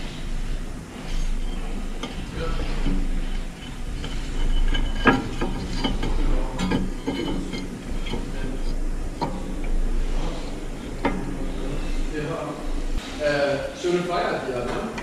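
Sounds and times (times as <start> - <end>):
metallic clicks and knocks: 0.0 - 13.0
steady low hum: 0.0 - 15.0.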